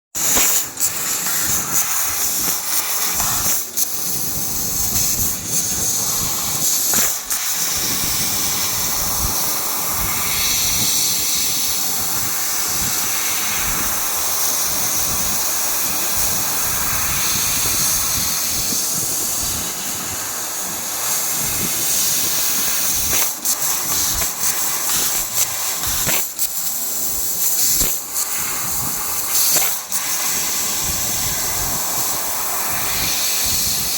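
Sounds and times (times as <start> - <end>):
laser cutter hissing: 0.2 - 33.9.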